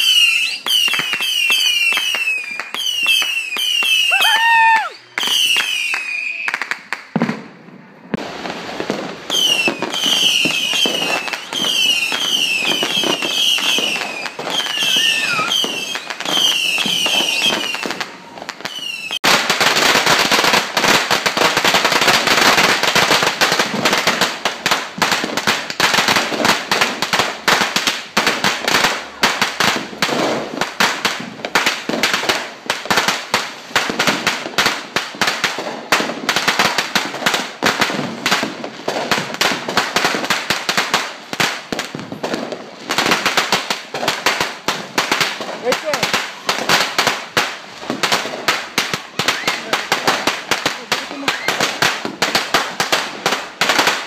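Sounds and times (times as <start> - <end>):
firecrackers crackling: 0.0 - 54.0
whistling fireworks popping: 0.0 - 54.0.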